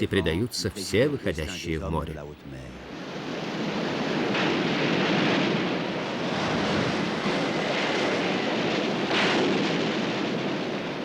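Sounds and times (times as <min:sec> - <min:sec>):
waves breaking: 0:00.0 - 0:11.0.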